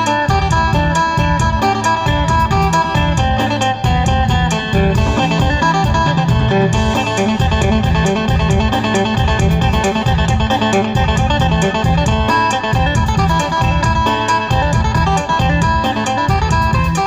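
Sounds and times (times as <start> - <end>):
plucked lute melody with beat: 0.0 - 17.0.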